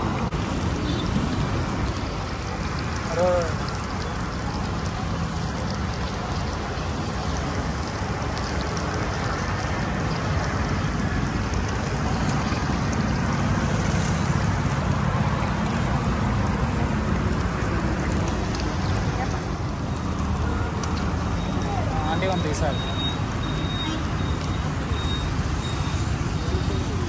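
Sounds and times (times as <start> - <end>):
oil crackling and sizzling: 0.0 - 27.0.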